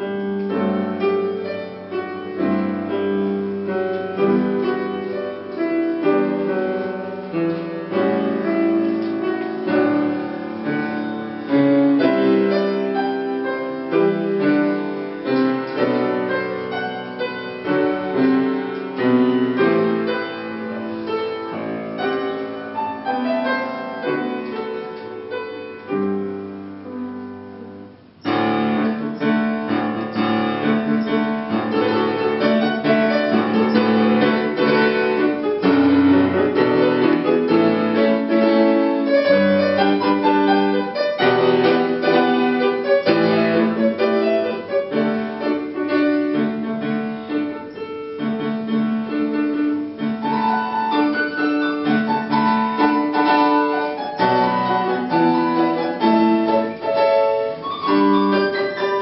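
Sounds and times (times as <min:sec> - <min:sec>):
solo grand piano: 0:00.0 - 0:59.0.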